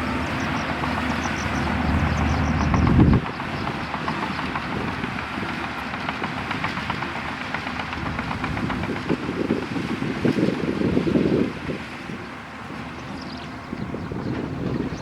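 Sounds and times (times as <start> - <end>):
bulldozer engine running: 0.0 - 15.0
steel tracks clanking: 0.0 - 15.0.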